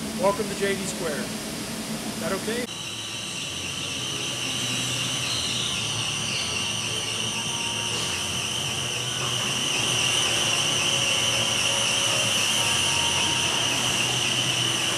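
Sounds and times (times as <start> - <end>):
low machine hum: 0.0 - 14.9
machines high whine: 0.0 - 14.9.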